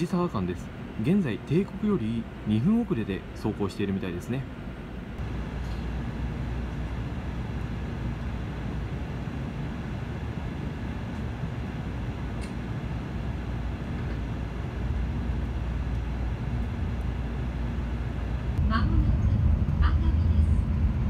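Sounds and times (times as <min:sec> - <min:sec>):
train cabin rumble: 0:00.0 - 0:21.0.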